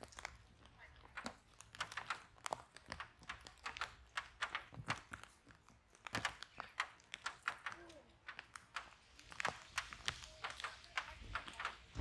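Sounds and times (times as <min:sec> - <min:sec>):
fireplace fire crackling: 0:00.0 - 0:12.0.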